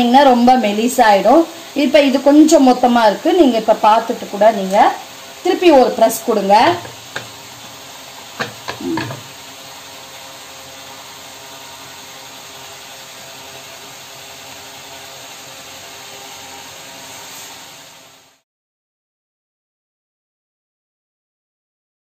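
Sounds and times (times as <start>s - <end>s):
oil hissing while deep-frying: 0.0s - 18.4s.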